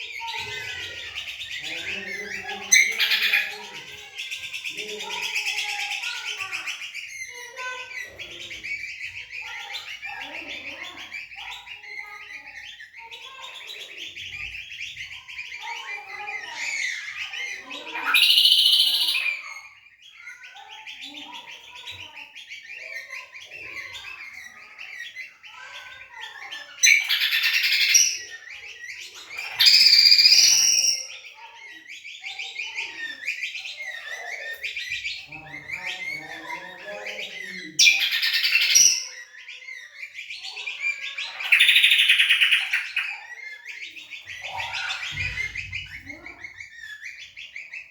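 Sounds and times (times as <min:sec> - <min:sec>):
bird song phrases: 0:00.0 - 0:47.9
songbirds chirping twitter: 0:00.0 - 0:47.9.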